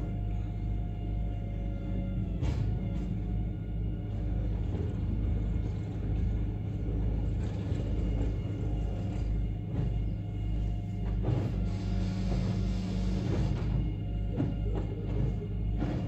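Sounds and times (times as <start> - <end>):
garbage truck engine rumbling: 0.0 - 16.0.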